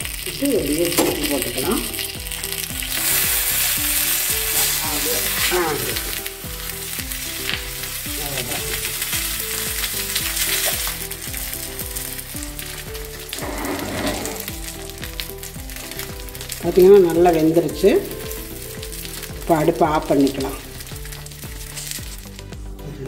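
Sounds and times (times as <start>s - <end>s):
fish sizzling in oil: 0.0s - 22.9s.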